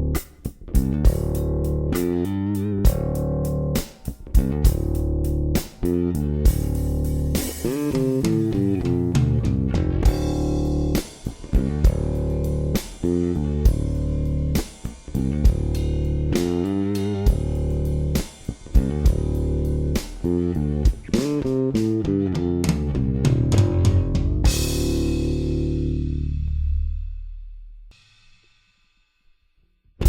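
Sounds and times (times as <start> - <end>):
electric bass riff: 0.0 - 27.4
drum kit: 0.0 - 28.9.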